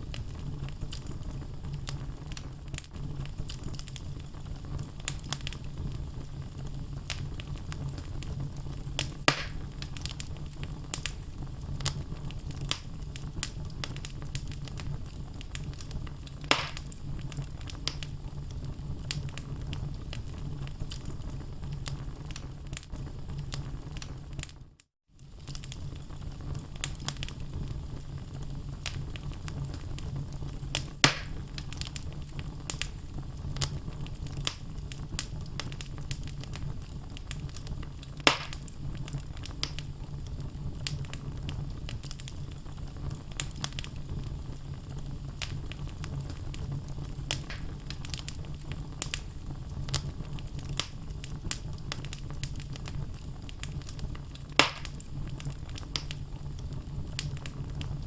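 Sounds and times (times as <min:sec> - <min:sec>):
burning wood popping: 0:00.0 - 0:24.6, 0:25.2 - 0:58.0
fire crackling: 0:00.0 - 0:58.0
low rumble of flame: 0:00.0 - 0:58.0.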